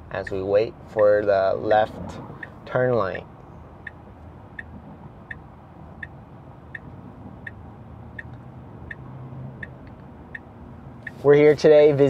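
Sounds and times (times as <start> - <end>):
turn signal ticking: 0.0 - 1.3, 2.2 - 2.8, 3.4 - 11.3
low cabin hum: 0.0 - 12.0.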